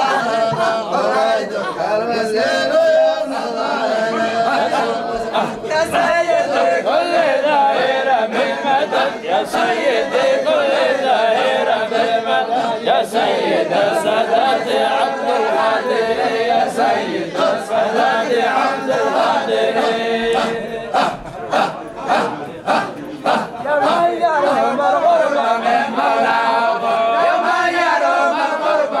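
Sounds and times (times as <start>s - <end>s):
men chanting together: 0.0s - 29.0s.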